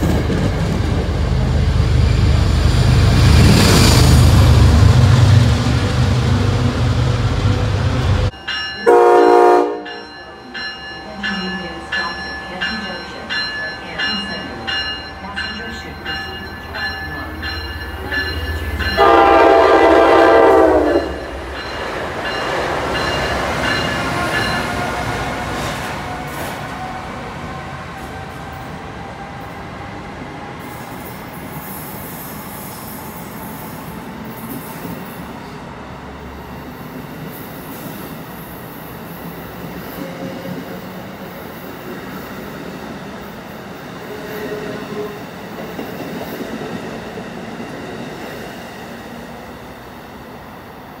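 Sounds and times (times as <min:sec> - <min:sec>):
train wheels rumbling on rails: 0:00.0 - 0:09.0, 0:09.8 - 0:49.6
electric locomotive whine: 0:00.0 - 0:51.0.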